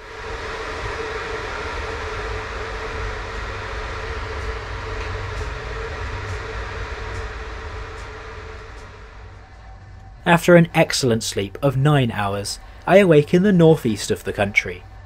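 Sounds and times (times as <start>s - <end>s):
train carriage rumble and hum: 0.0s - 15.0s.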